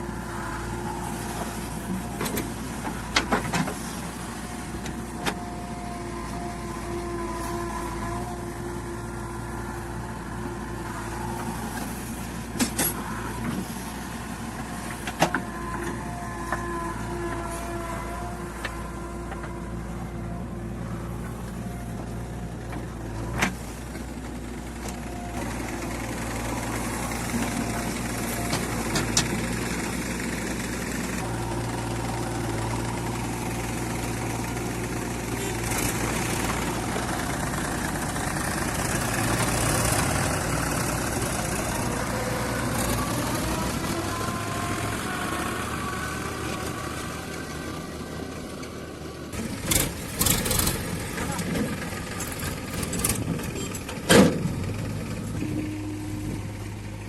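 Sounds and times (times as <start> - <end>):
diesel engine of backhoe loader: 0.0 - 57.0.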